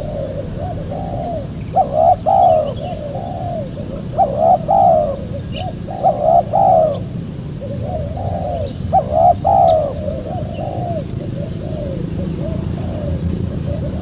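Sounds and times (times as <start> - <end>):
dove cooing: 0.0 - 14.0
low background rumble: 0.0 - 14.0.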